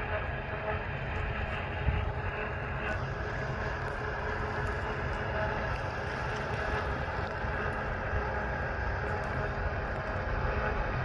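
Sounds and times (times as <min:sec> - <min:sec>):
harvest machinery engine drone: 0:00.0 - 0:11.0.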